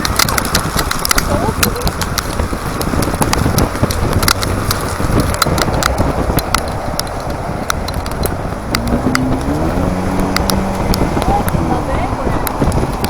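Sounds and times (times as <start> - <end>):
sharp ticks: 0.0 - 13.0
wind and road noise: 0.0 - 13.0.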